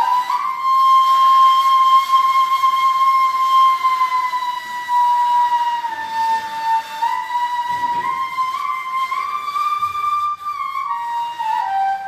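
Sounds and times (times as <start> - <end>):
reed flute playing slow solo: 0.0 - 12.0.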